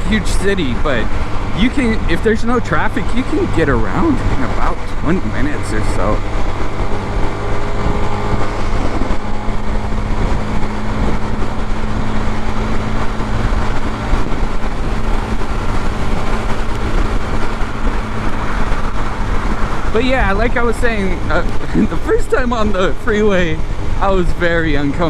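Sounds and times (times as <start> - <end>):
motorcycle engine cruising: 0.0 - 25.0
road noise: 0.0 - 25.0
wind rush: 0.0 - 25.0.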